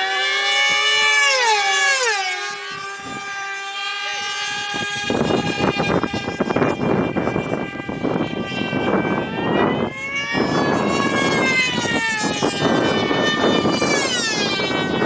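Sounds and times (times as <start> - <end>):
high-pitched model plane engines: 0.0 - 15.0
wind buffeting microphone: 0.0 - 15.0.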